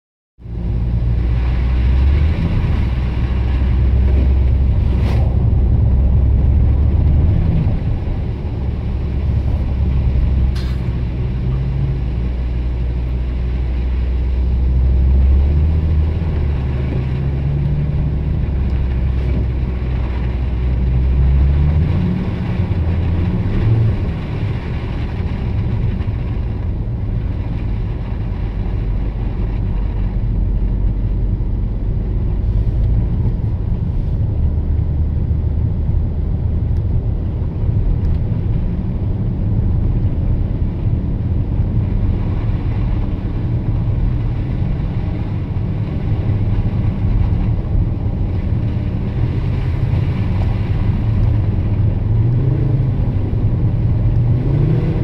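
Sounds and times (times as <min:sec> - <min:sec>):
car engine droning: 0:00.4 - 0:55.0.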